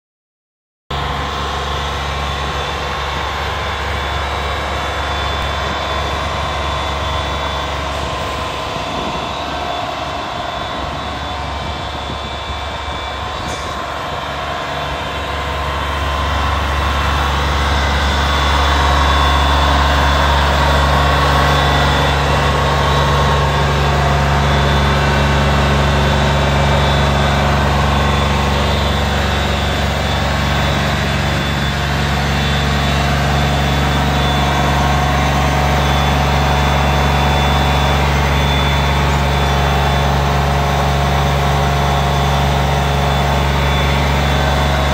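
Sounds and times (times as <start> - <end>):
deep steady hum: 0.9 - 44.9
truck engine running: 0.9 - 44.9.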